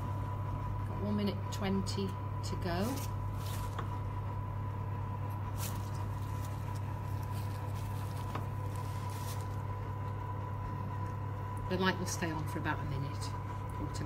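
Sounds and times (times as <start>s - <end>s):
electric oven fans humming: 0.0s - 14.0s.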